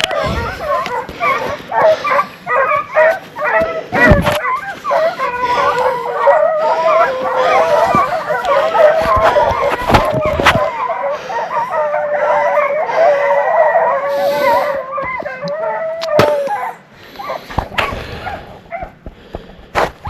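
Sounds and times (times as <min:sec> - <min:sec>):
hounds baying: 0:00.0 - 0:20.0.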